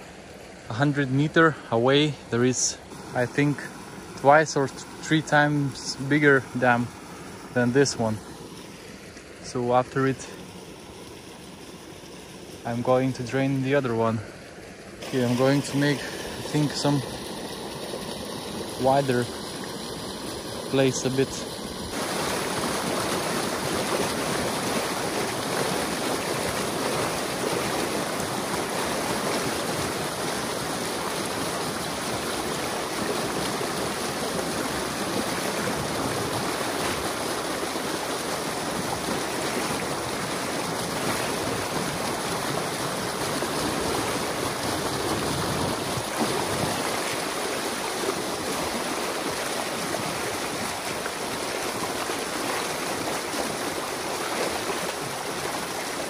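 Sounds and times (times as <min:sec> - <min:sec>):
water rushing through dam breach: 0:00.0 - 0:56.0.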